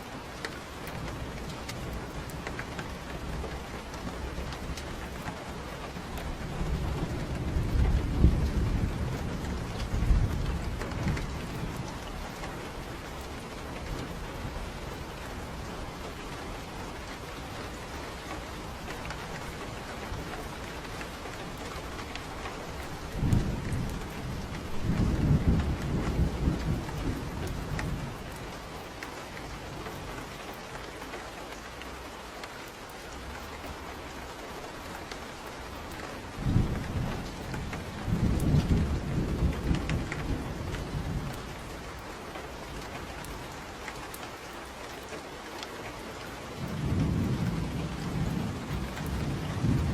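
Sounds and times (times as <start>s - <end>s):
steady rain falling: 0.0s - 49.9s
low rolls of thunder: 0.9s - 30.5s, 33.1s - 44.2s, 46.4s - 49.9s.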